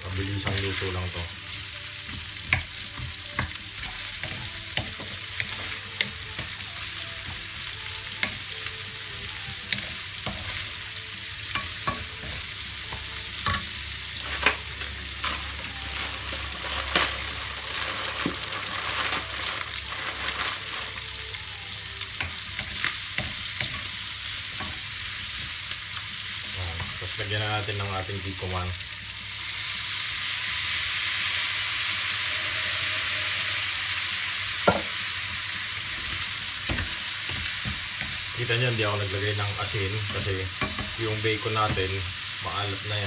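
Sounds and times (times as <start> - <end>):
vegetables sizzling in a frying pan: 0.0 - 43.0.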